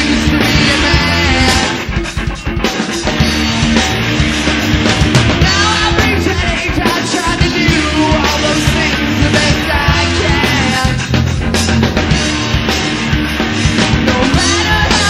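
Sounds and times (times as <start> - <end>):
bass guitar: 0.0 - 15.0
drum kit: 0.0 - 15.0.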